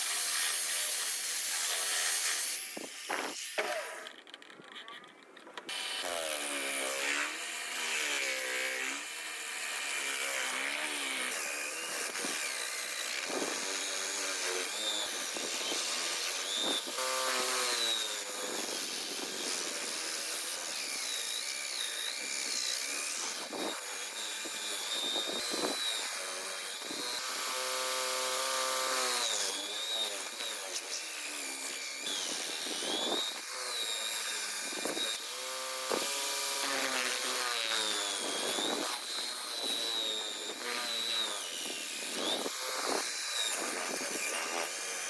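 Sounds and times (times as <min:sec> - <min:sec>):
electric drill motor: 0:00.0 - 0:45.0.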